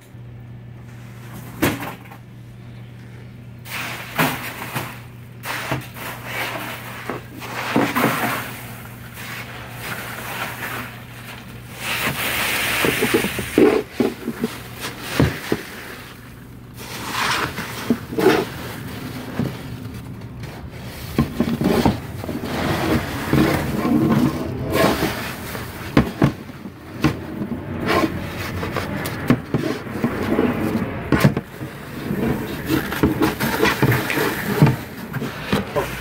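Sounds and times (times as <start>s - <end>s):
steady machine hum: 0.0s - 36.0s
ice scraping and tumbling: 3.7s - 36.0s.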